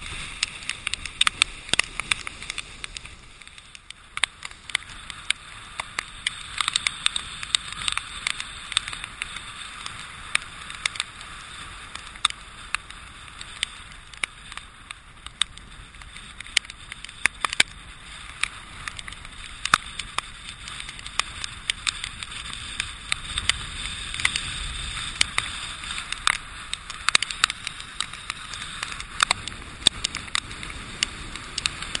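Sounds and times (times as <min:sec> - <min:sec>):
hurricane wind: 0:00.0 - 0:32.0
rain drops ticking on camera: 0:00.0 - 0:32.0.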